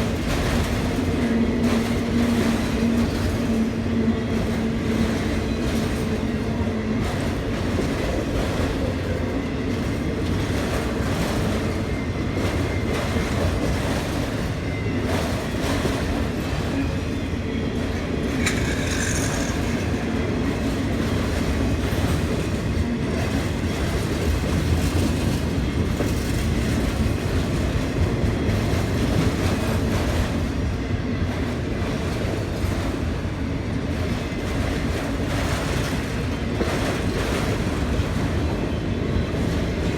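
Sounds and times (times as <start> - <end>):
train wheels rumbling and clacking: 0.0 - 39.9.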